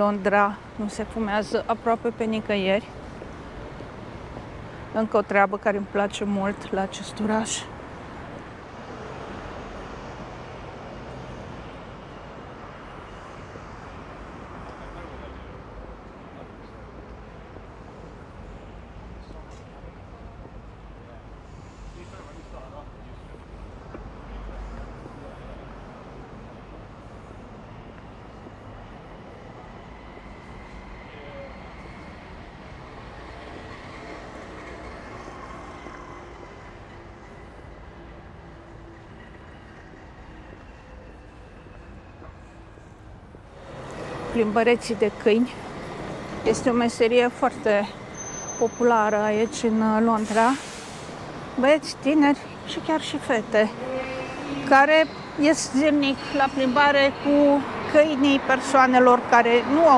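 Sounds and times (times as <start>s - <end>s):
city background noise: 0.0s - 59.9s
passing vehicles rumble: 0.0s - 59.9s.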